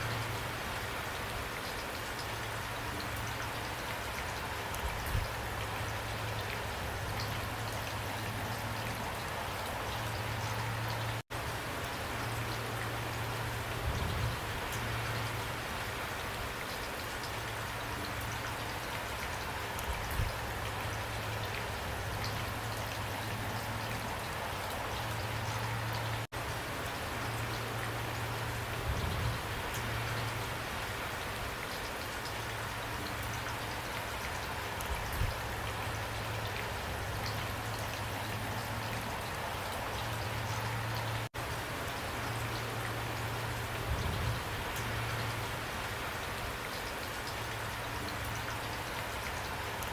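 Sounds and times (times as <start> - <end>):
raindrops pattering: 0.0 - 49.9
steady rain falling: 0.0 - 49.9.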